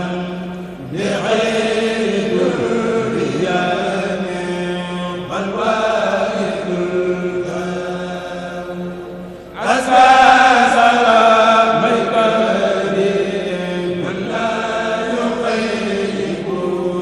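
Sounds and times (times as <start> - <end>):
men chanting religious poem: 0.0 - 17.0.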